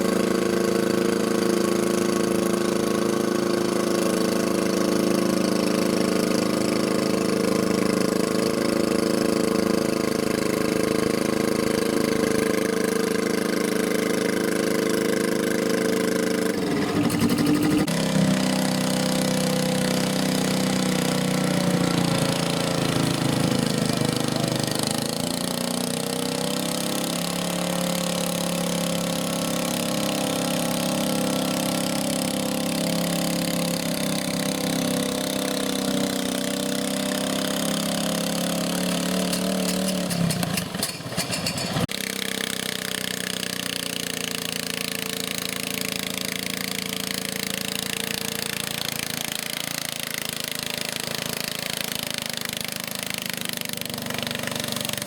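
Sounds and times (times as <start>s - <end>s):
garden tractor engine running: 0.0s - 55.0s.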